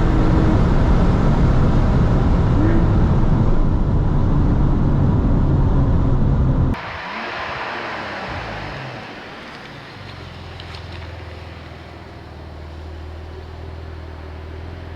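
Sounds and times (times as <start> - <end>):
car engine: 0.0 - 14.9
road and wind noise: 0.0 - 14.9.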